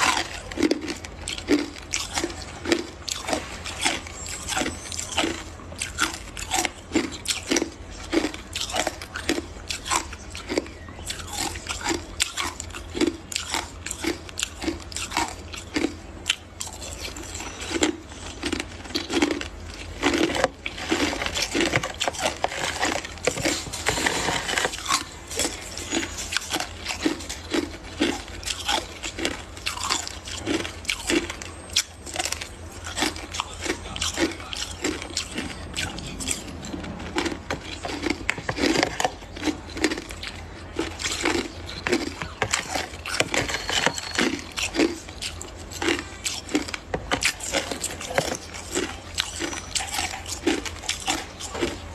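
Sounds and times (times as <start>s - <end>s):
ice being chewed: 0.0s - 51.9s
low hum: 0.0s - 51.9s.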